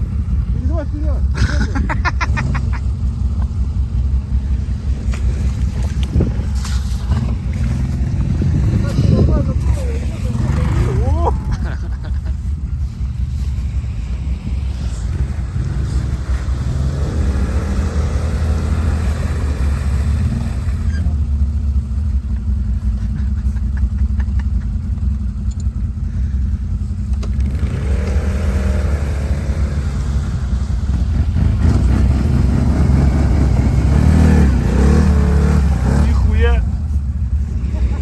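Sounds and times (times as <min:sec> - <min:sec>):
quad bike engine revving: 0:00.0 - 0:12.0, 0:13.1 - 0:22.3, 0:23.0 - 0:38.0.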